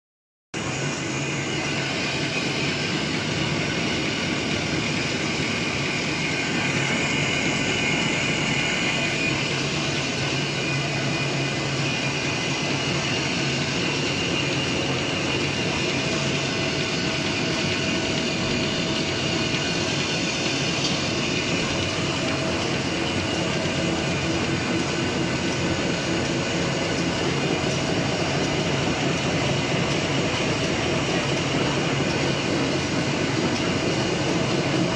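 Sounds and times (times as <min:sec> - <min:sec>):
fast mechanical rattle of rollers: 0:00.6 - 0:34.9.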